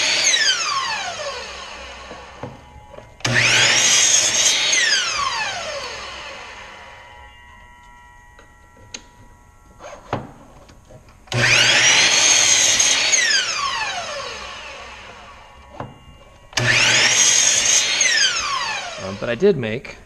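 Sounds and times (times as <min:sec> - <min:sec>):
miter saw cutting: 0:00.0 - 0:10.4, 0:11.2 - 0:19.7.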